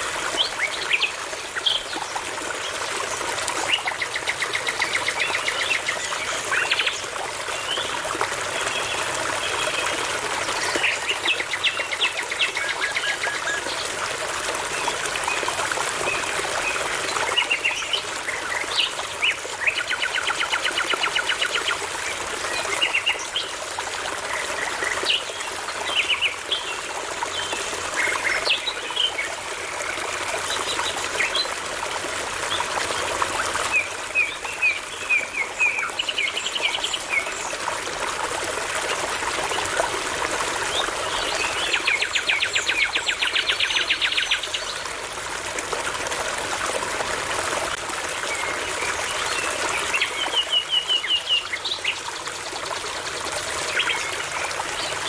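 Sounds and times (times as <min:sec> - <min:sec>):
babbling brook: 0:00.0 - 0:55.0.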